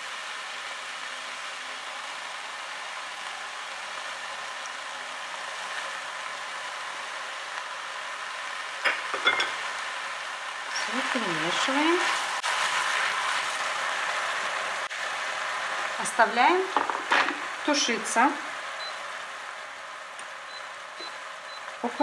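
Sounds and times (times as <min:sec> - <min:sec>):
meat and vegetables sizzling: 0:00.0 - 0:22.0.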